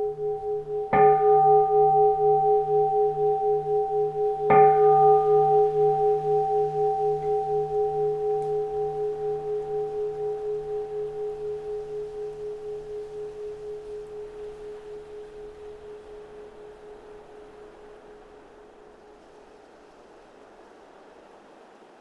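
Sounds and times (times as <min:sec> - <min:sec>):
bowl bell ringing: 0:00.0 - 0:19.1.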